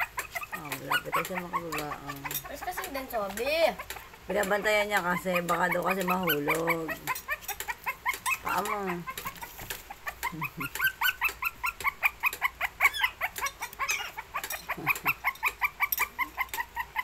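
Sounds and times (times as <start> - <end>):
puppies whining and yipping: 0.0 - 17.0.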